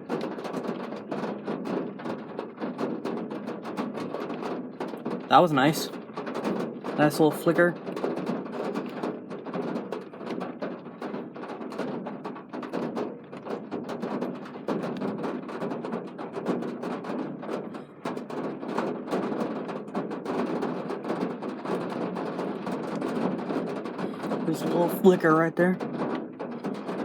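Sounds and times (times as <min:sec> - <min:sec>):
rain on a hard surface: 0:00.0 - 0:27.0.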